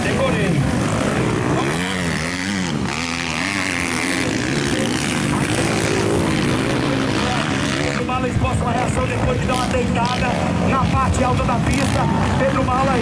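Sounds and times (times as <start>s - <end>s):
dirt bikes revving: 0.0s - 13.0s.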